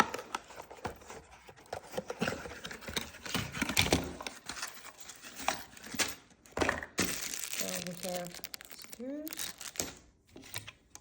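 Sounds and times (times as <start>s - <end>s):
cardboard and plastic rustling: 0.0s - 10.9s.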